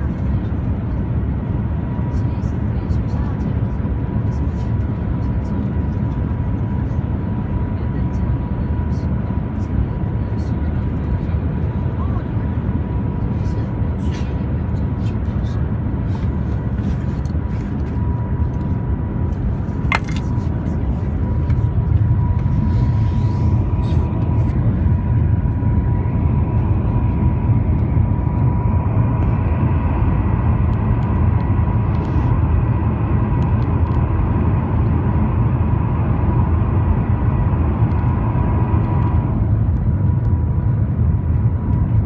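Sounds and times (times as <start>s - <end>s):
thin steady whine: 0.0s - 42.0s
train cabin low rumble: 0.0s - 42.0s.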